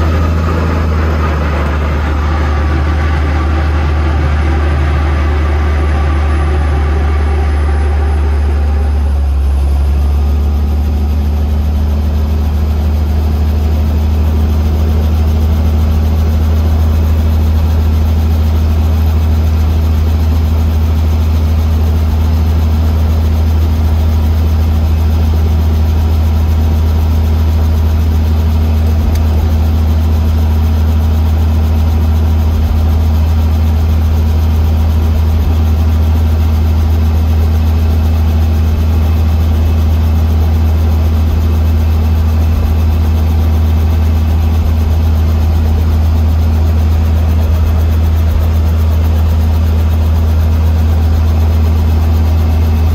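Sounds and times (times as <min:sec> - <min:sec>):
helicopter engine and rotor idling: 0:00.0 - 0:52.9.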